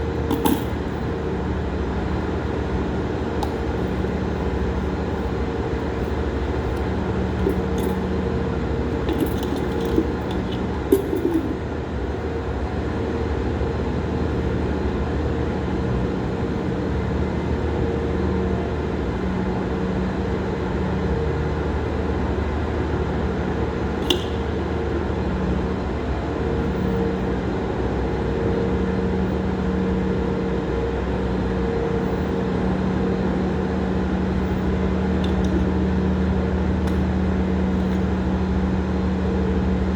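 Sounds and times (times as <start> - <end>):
machine hum with low tones: 0.0 - 39.9.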